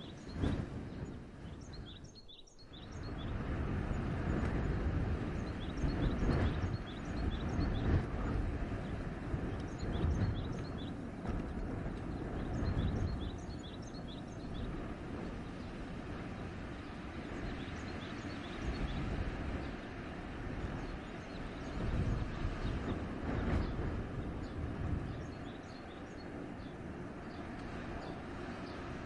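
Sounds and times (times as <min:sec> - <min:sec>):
small birds chirping: 0:00.0 - 0:29.0
wind gusting through forest: 0:00.0 - 0:29.0.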